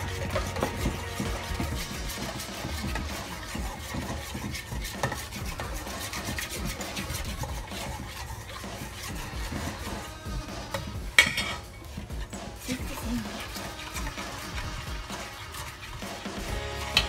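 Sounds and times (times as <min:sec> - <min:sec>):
spoon scraping in a bowl: 0:00.0 - 0:17.0.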